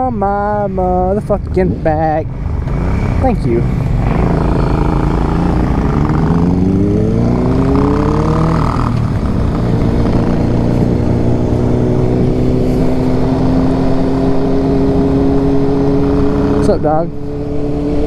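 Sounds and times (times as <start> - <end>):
wind rush: 1.4 - 18.0
motorcycle engine accelerating: 2.5 - 18.0.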